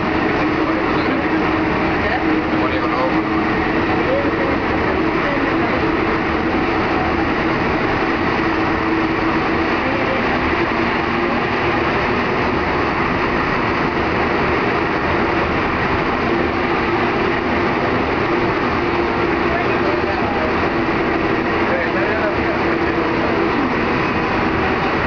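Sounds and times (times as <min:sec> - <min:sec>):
metro train running in tunnel: 0:00.0 - 0:25.0
steady hum: 0:00.0 - 0:25.0.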